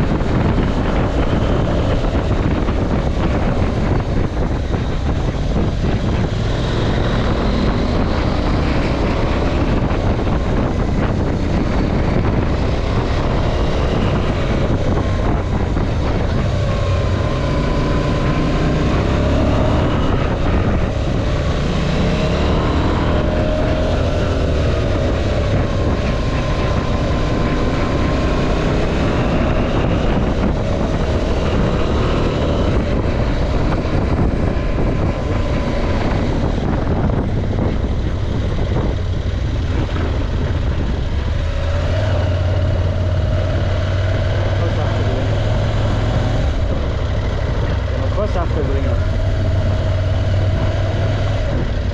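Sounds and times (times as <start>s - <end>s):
motorcycle engine revving: 0.0s - 51.9s
road and wind noise: 0.0s - 51.9s.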